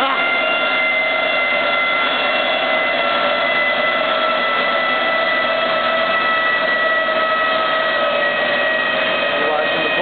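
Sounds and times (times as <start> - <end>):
drivetrain whine: 0.0 - 10.0.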